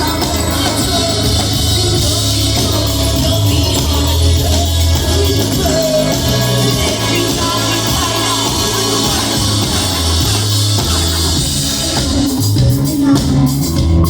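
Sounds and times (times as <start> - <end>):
heavy sustained bass notes: 0.0 - 14.0
live rock band playing: 0.0 - 14.0
person singing: 0.0 - 14.0.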